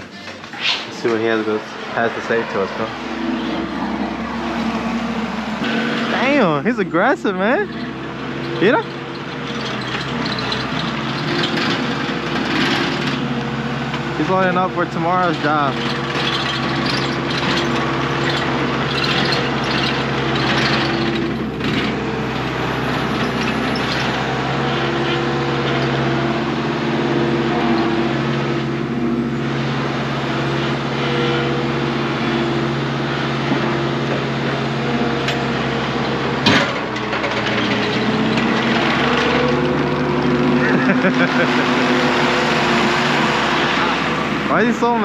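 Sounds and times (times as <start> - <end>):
loading machine engine running: 0.0 - 45.0.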